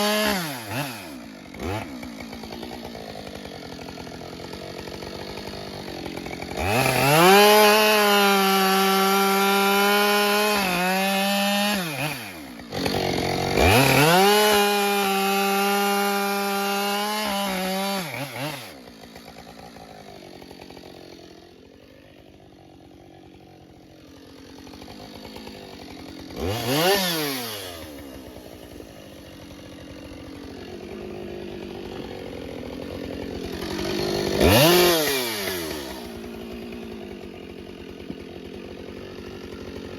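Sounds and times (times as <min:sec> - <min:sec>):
chainsaw idling: 0:00.0 - 0:39.9
chainsaw revving and cutting: 0:00.0 - 0:39.9.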